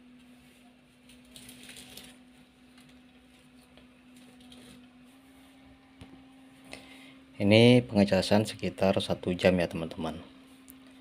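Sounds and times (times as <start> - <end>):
faint charger hum: 0.0 - 11.0.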